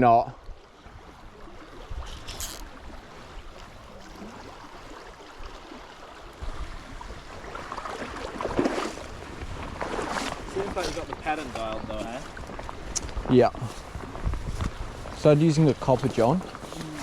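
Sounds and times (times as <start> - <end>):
river water running over riffle: 0.5 - 17.0.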